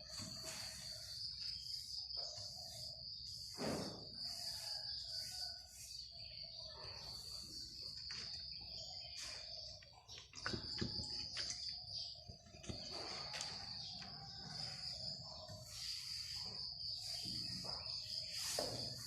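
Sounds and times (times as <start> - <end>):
bird chirps: 0.0 - 19.0
crickets droning: 0.0 - 19.0.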